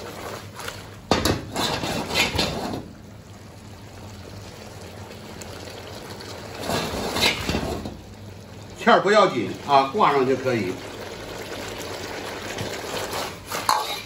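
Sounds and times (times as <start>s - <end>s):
sauce simmering: 0.0s - 14.0s
sauce sloshing and sizzling in wok: 0.0s - 14.0s.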